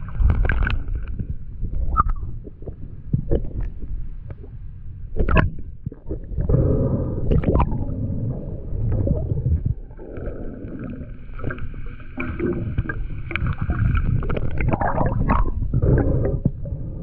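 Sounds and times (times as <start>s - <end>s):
water gurgling underwater: 0.0s - 17.0s.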